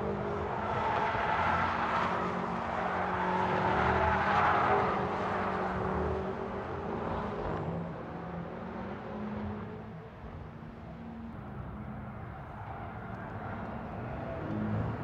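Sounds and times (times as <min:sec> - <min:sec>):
car engines approaching: 0:00.0 - 0:15.0.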